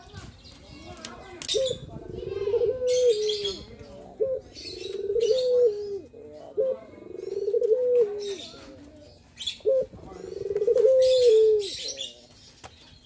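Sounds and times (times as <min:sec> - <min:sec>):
dove cooing: 0:01.5 - 0:12.2.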